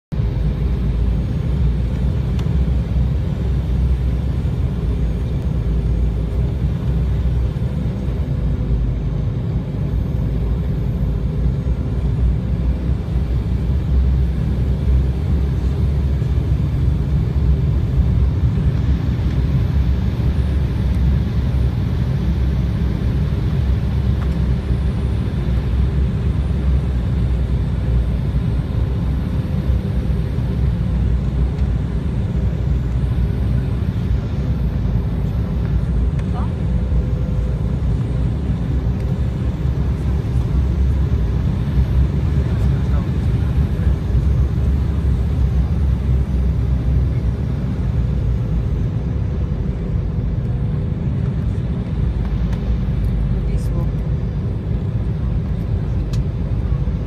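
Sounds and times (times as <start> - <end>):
airliner engines rumbling: 0.1 - 57.0
cabin airflow: 0.2 - 57.0.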